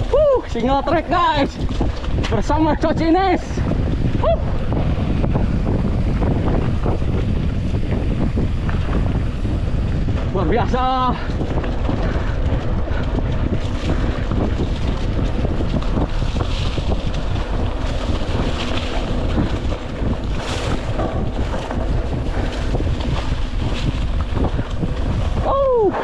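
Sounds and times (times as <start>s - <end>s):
bike rattling and knocking: 0.0s - 26.0s
tyres rumbling on dirt: 0.0s - 26.0s
wind buffeting microphone: 0.0s - 26.0s.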